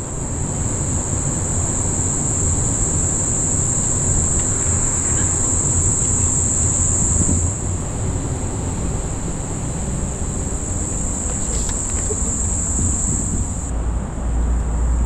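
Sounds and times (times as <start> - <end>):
insects buzzing: 0.0 - 13.7.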